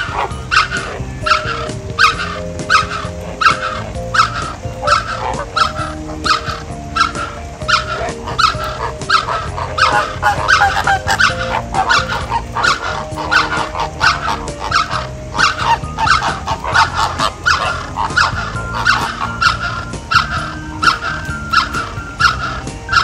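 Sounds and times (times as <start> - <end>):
flamingos honking: 0.0 - 23.0.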